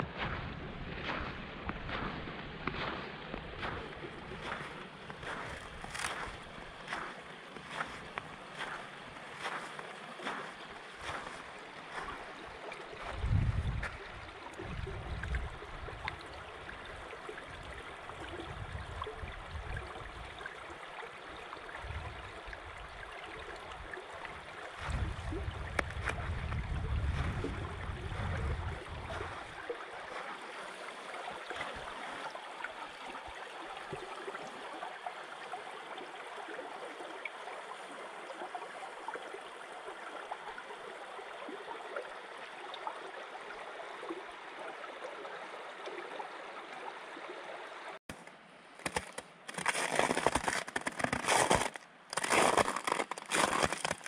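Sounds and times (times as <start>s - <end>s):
shallow river babbling: 0.0s - 26.4s, 27.5s - 54.0s.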